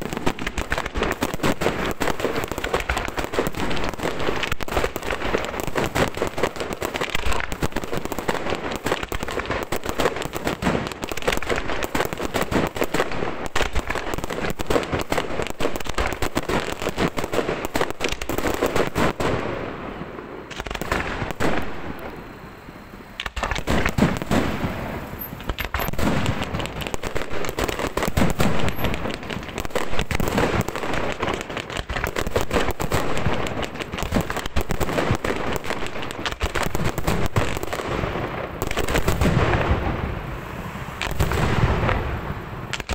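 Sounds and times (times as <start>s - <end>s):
fireworks bursts: 0.0s - 42.9s.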